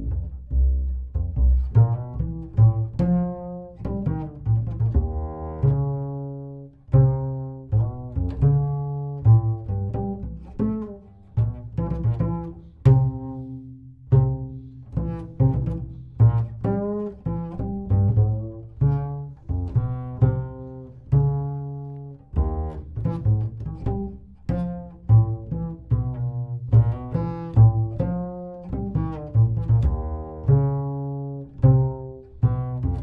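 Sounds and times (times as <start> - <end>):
plucked double bass: 0.0 - 33.0.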